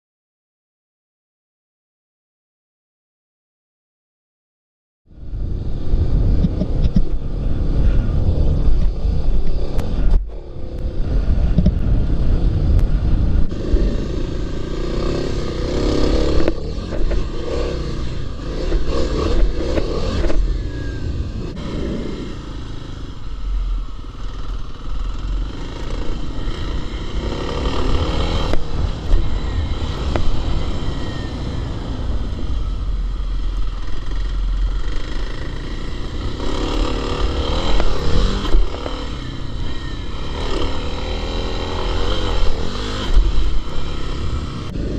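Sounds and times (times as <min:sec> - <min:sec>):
low rumble: 0:05.1 - 0:44.9
motorcycle engine revving: 0:05.1 - 0:44.9.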